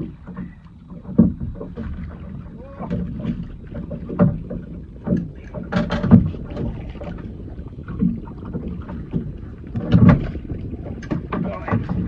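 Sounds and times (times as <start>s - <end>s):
knocks and rustles from fishing gear: 0.0s - 7.3s, 7.9s - 12.0s
water slapping against hull: 0.0s - 12.0s.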